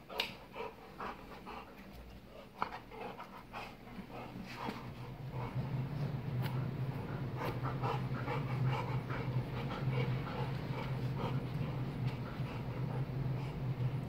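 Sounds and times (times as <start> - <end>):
dogs breathing and snuffling: 0.0 - 14.0
steady low hum: 0.0 - 14.0.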